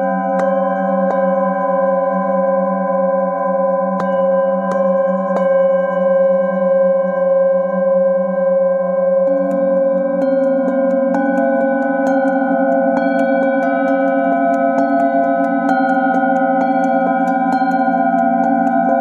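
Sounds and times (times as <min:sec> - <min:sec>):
singing bowls ringing: 0:00.0 - 0:19.0.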